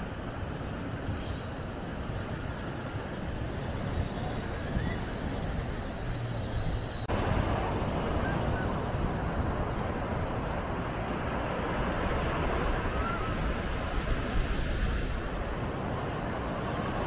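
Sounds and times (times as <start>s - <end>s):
surf rushing on a beach: 0.0s - 17.0s.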